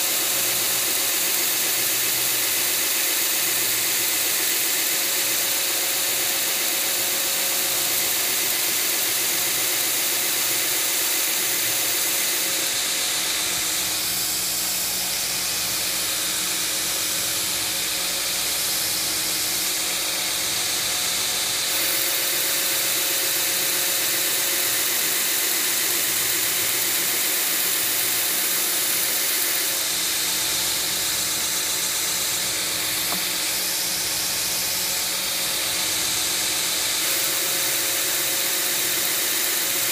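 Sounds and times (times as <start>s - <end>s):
belt grinder running: 0.0s - 39.9s.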